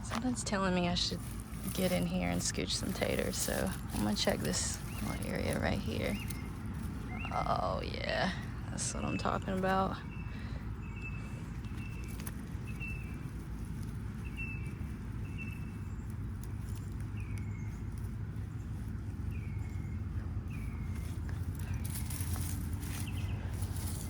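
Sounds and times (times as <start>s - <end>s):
hands digging in soil: 0.0s - 24.0s
steady low rumble: 0.0s - 24.0s.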